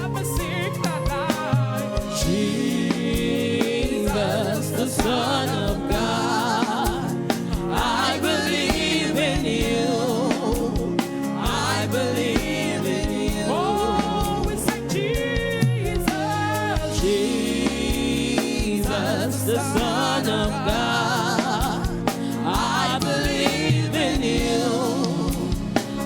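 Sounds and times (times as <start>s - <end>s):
gospel singing with band: 0.0s - 26.0s.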